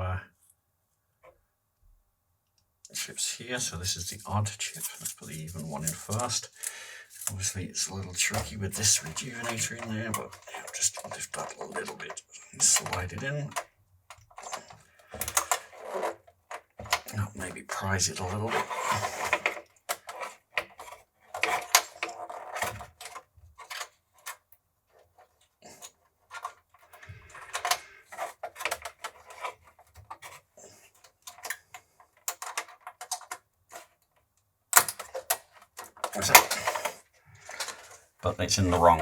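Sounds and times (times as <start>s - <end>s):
plastic and metal clicks and scrapes: 4.1s - 39.0s.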